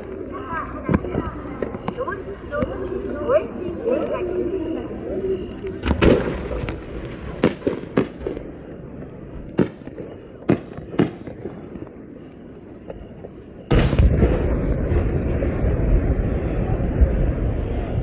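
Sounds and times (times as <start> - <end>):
firework bangs and crackling: 0.0 - 18.0.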